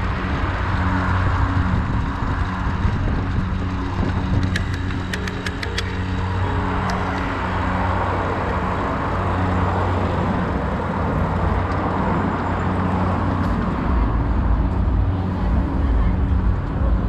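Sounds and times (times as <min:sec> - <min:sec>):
city bus humming: 0:00.0 - 0:17.0
vehicles passing: 0:00.0 - 0:17.0
wind and tyre noise: 0:00.0 - 0:17.0.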